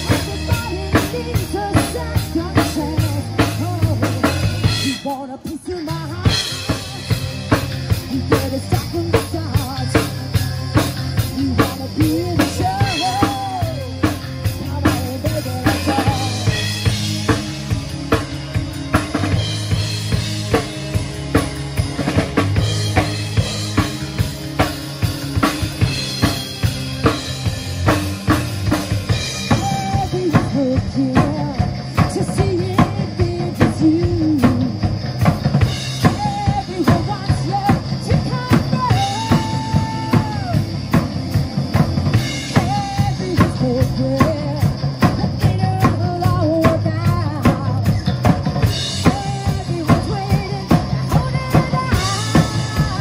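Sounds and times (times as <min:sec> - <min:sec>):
drum kit beat: 0:00.0 - 0:53.0
electric bass: 0:00.0 - 0:53.0
electric guitar lead: 0:00.0 - 0:53.0.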